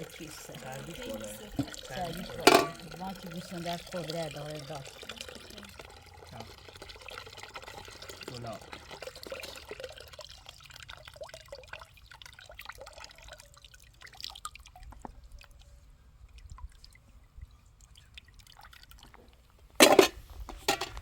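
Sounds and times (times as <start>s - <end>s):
liquid dripping and trickling: 0.0s - 19.8s.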